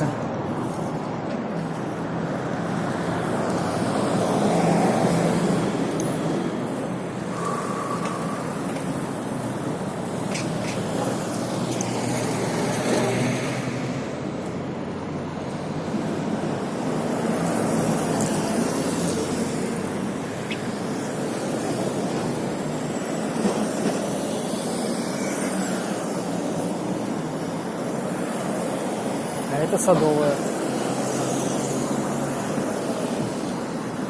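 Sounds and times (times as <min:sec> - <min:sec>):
traffic noise: 0:00.0 - 0:34.0.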